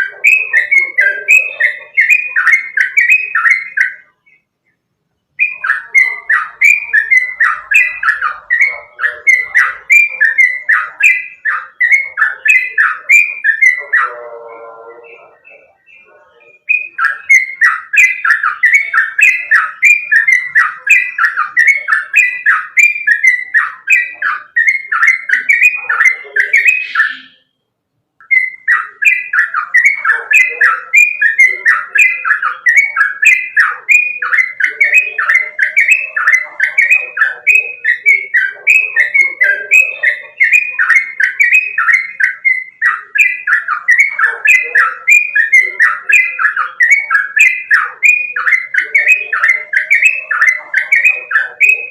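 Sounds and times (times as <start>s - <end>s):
bird singing bubbly chirps: 0.0s - 27.6s, 28.2s - 51.9s.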